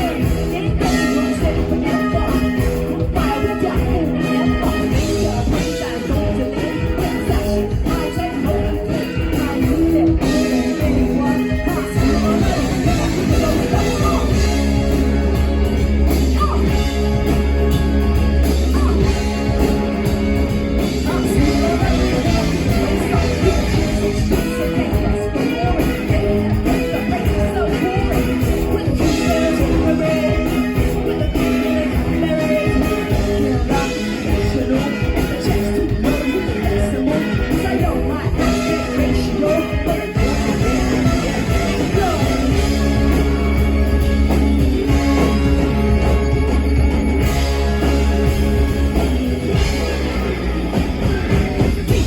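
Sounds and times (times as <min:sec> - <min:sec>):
drums: 0:00.0 - 0:52.0
live rock band playing: 0:00.0 - 0:52.0
person singing: 0:00.0 - 0:52.0.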